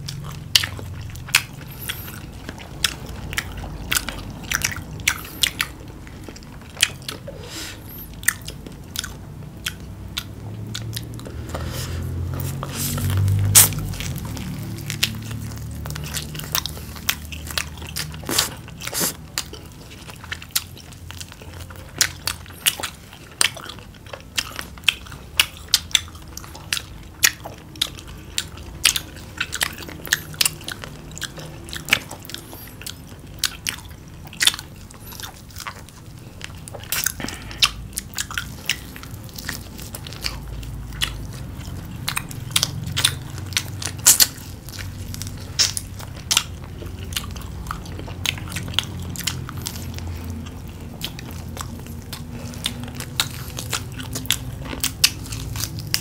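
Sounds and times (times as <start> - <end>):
chewing: 0.0 - 56.0
crunching fried chicken: 0.0 - 56.0.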